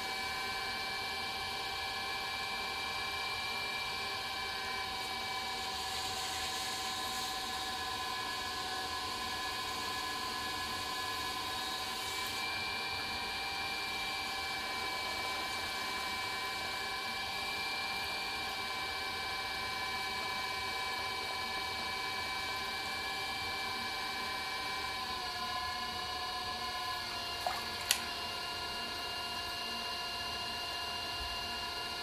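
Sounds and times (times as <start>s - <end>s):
potter's wheel motor whine: 0.0s - 32.0s.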